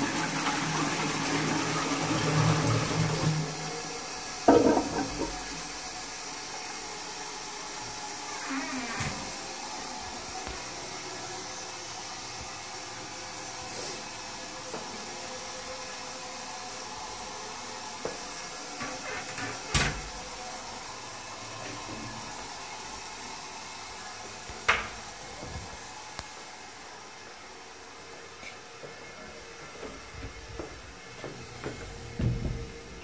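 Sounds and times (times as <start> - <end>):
steady hiss: 2.9 - 29.8.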